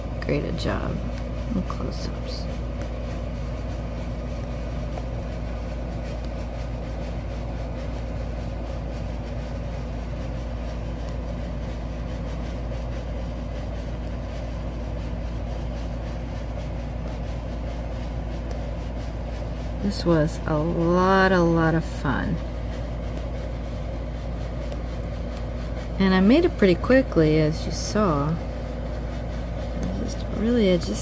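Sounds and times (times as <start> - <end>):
constant hum: 0.0 - 31.0.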